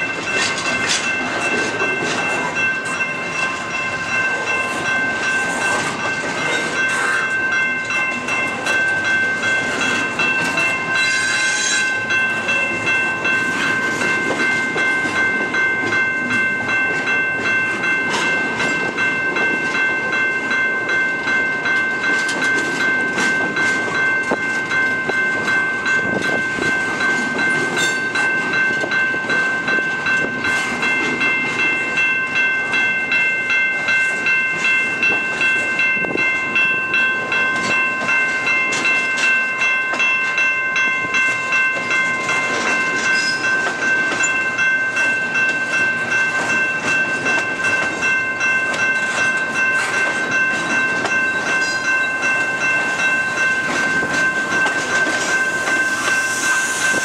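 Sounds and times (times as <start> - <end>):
crossing bell ringing: 0.0 - 57.0
train wheels clicking on rails: 0.0 - 57.0.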